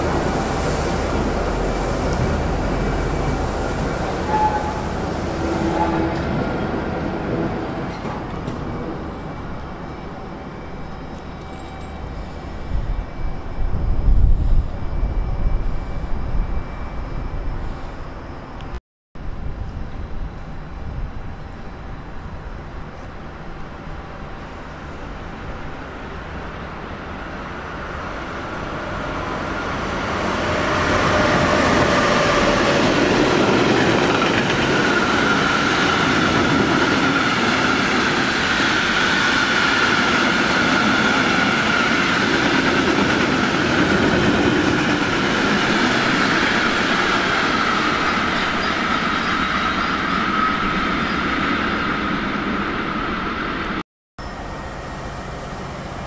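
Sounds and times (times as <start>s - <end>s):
train wheels on track: 0.0s - 16.9s, 25.8s - 56.0s.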